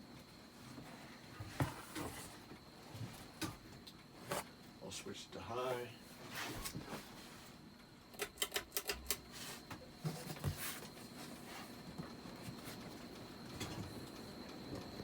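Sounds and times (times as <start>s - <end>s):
fan whine: 0.0s - 15.0s.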